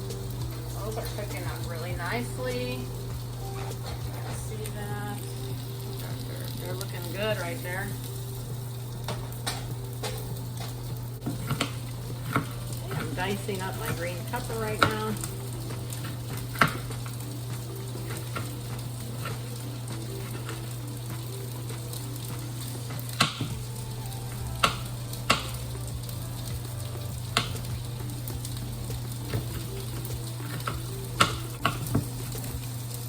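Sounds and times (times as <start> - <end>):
sausages sizzling in a skillet: 0.0 - 33.0.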